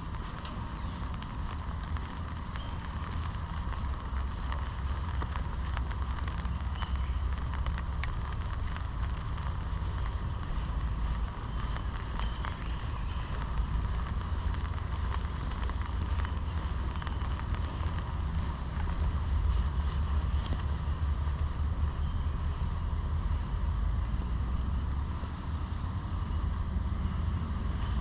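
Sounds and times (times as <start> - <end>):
rain falling: 0.0 - 28.0
wind rumble on microphone: 0.0 - 28.0.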